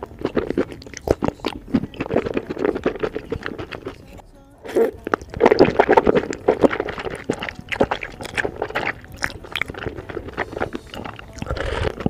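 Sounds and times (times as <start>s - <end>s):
noodles slurped and chewed: 0.0s - 12.0s.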